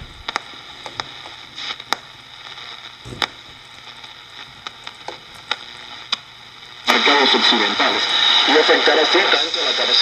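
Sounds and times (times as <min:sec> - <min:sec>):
scratchy tuning control: 0:00.0 - 0:08.3
radio static hiss: 0:00.0 - 0:10.0
sharp static crackles: 0:00.0 - 0:10.0.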